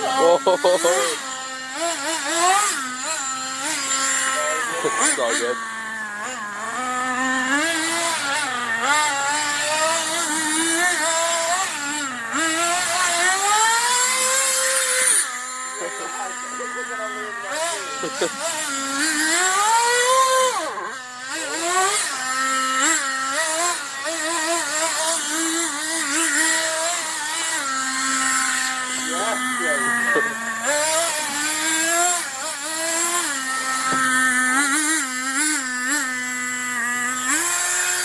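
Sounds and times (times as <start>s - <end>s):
small two-stroke engine revving: 0.0s - 38.0s.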